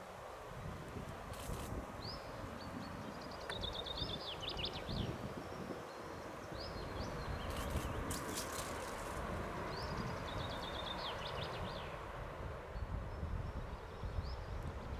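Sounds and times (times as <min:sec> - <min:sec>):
outdoor background noise: 0:00.0 - 0:14.9
songbird singing: 0:01.3 - 0:14.9.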